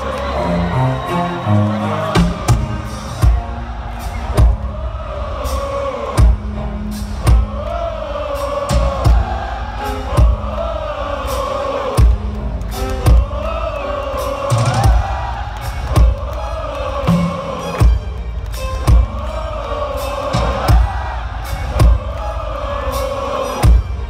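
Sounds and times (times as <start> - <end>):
live rock music: 0.0 - 24.0
stadium crowd singing: 0.0 - 24.0.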